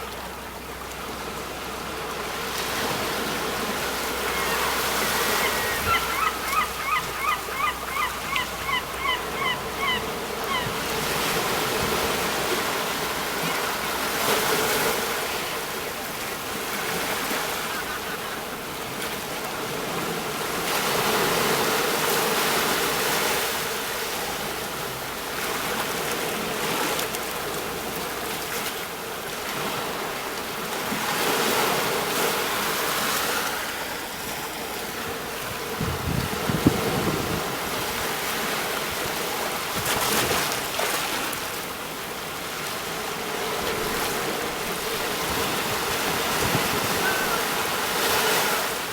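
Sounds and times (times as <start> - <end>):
sea waves breaking: 0.0 - 48.9.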